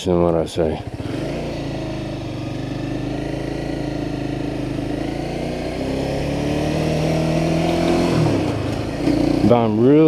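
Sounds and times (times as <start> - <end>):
motorcycle engine running: 0.3 - 10.0.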